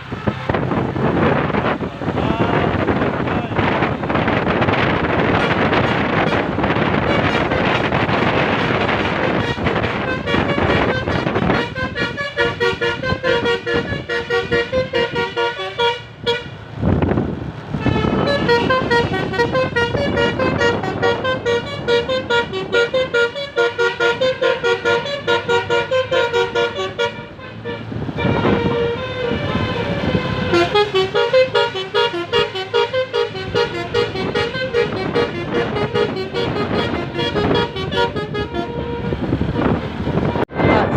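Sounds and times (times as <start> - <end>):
road noise: 0.0 - 40.9
wind noise: 0.0 - 40.9
multi-tone horn playing tune: 4.1 - 16.6, 17.7 - 40.9.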